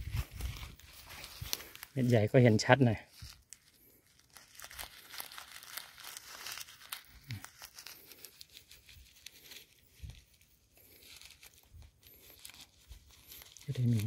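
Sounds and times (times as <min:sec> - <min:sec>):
seeds crinkling and rustling in hands: 0:00.0 - 0:14.0.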